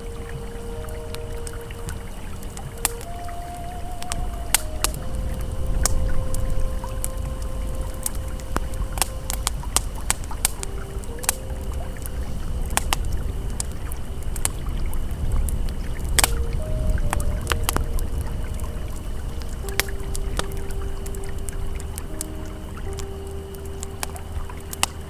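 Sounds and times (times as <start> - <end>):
campfire crackling and popping: 0.0 - 25.0
river flowing: 0.0 - 25.0
soft sustained ambient tones: 0.0 - 25.0.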